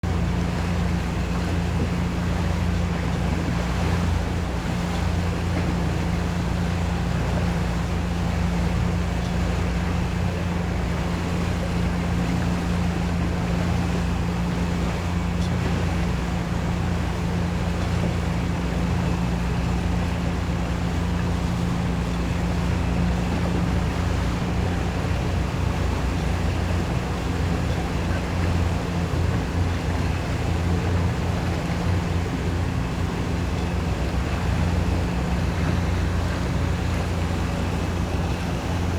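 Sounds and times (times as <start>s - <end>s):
motorboat engine droning: 0.0s - 38.9s
water wash: 0.0s - 38.9s.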